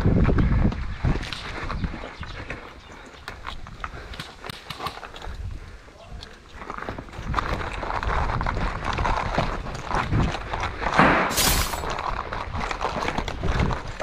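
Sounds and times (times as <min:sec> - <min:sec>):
running footsteps on gravel: 0:00.0 - 0:14.0.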